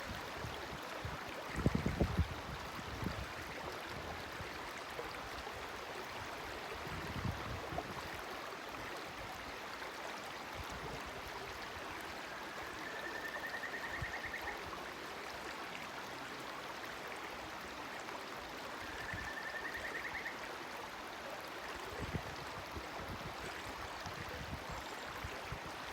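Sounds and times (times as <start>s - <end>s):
river flowing: 0.0s - 25.9s.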